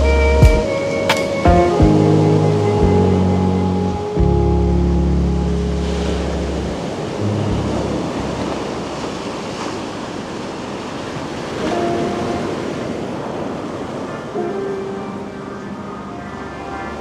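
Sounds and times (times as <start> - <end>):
pitched hum: 0.0 - 9.0, 11.6 - 17.0
sea surf rushing: 0.0 - 17.0.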